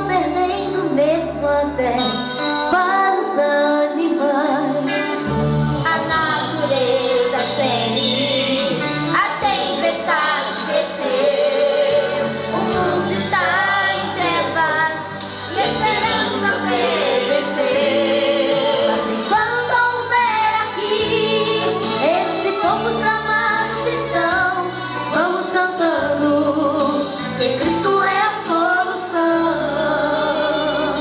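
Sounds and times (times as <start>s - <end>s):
instrumental accompaniment with bass: 0.0s - 31.0s
women singing a hymn duet: 2.7s - 5.0s, 5.8s - 31.0s.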